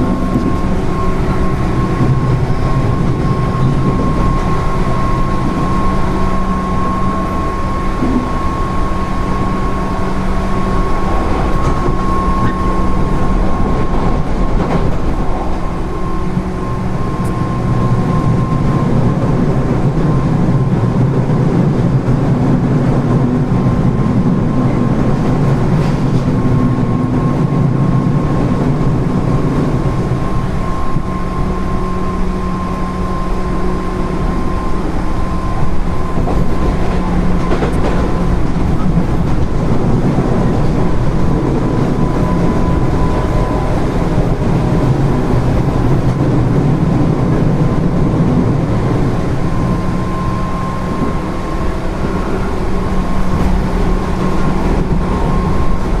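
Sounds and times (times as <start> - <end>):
thin steady whine: 0.0 - 56.0
train wheels rumbling on rail: 0.0 - 56.0.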